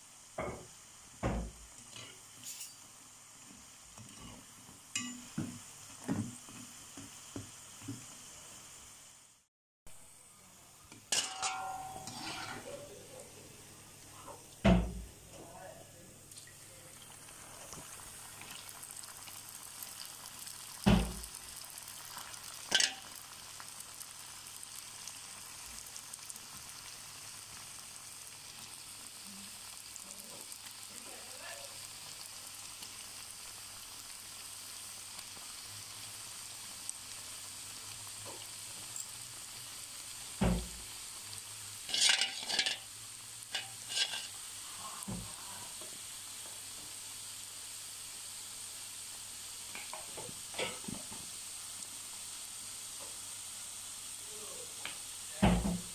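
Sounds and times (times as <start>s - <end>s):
pastries deep-frying in oil: 0.0s - 55.9s.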